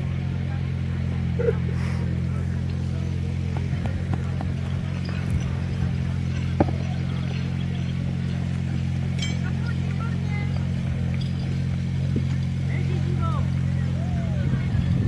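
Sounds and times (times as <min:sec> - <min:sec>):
steady low motor hum: 0:00.0 - 0:15.0.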